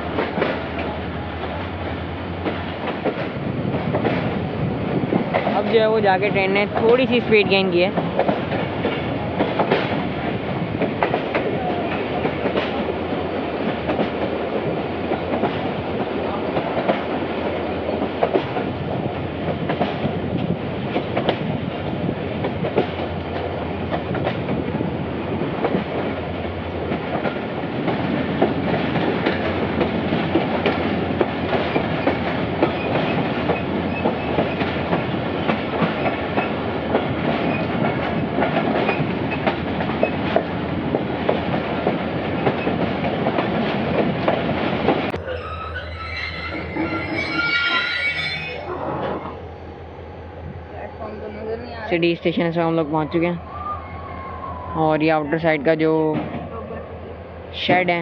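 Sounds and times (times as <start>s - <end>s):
wheels clacking over rail joints: 0.0s - 24.6s, 25.4s - 47.6s
train rumble: 0.0s - 58.0s.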